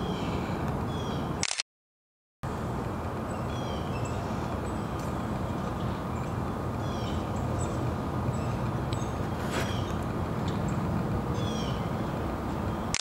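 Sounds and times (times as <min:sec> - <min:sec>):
small birds chirping: 0:00.0 - 0:01.4, 0:03.2 - 0:13.0.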